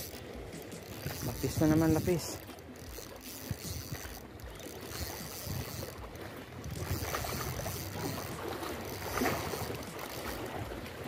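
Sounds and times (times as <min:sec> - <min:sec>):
sea water washing against rocks: 0:00.0 - 0:11.0
wind rumbling on microphone: 0:00.0 - 0:11.0.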